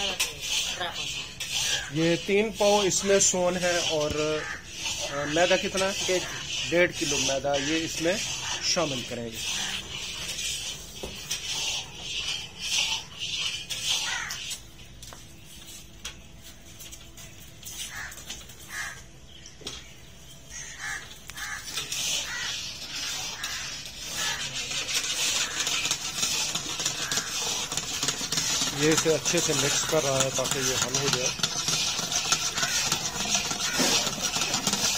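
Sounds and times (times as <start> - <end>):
metal rod stirring mixture: 0.0 - 14.9, 20.9 - 34.9.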